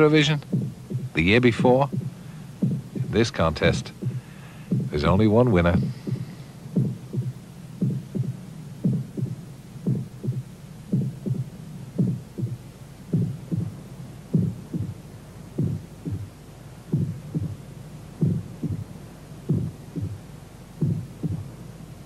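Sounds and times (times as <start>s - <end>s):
heartbeat thumping: 0.0s - 21.6s
low hum: 0.0s - 22.0s.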